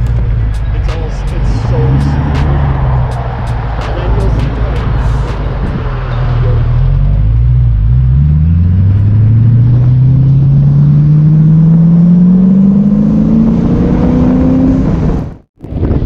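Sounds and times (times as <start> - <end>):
car engine accelerating hard: 0.0 - 15.5.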